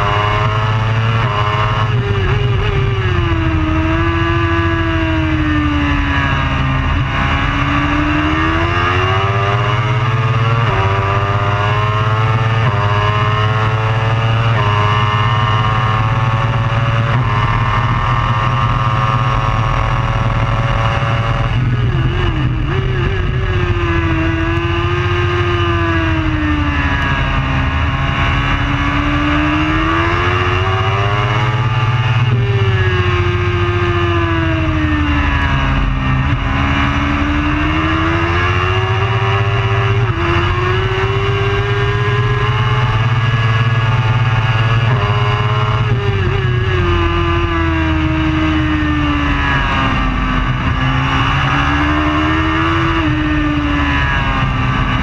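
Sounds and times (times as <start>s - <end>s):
motorcycle engine revving: 0.0s - 55.0s
steady low rumble: 1.8s - 9.1s, 15.5s - 43.1s, 43.8s - 55.0s.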